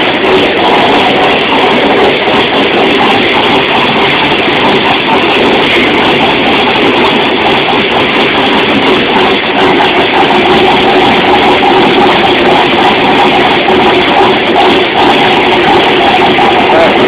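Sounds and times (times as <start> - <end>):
truck engine running steadily: 0.0 - 17.0.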